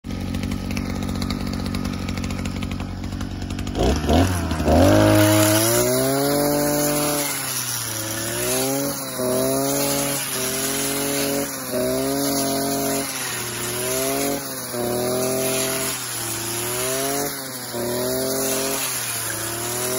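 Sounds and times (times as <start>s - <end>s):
brush cutter engine revving: 0.1s - 19.9s.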